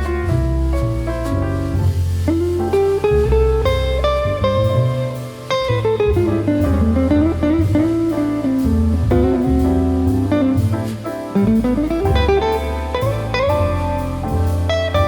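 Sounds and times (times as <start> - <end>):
bass line: 0.0 - 15.0
bluesy slide guitar tune: 2.2 - 15.0.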